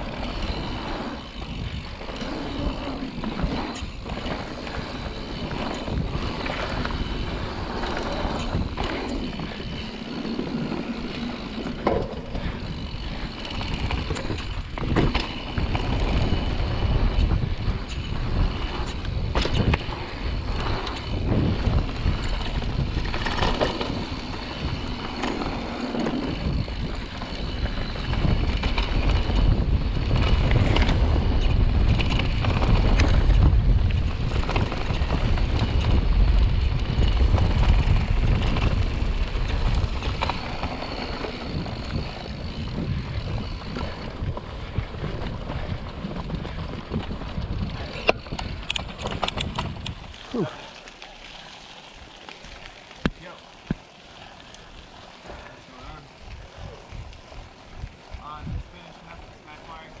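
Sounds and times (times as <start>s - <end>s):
wind buffeting microphone: 0.0s - 50.8s, 53.7s - 60.0s
bike rattling over bumps: 0.0s - 60.0s
bike tyres skidding over dirt: 0.0s - 60.0s.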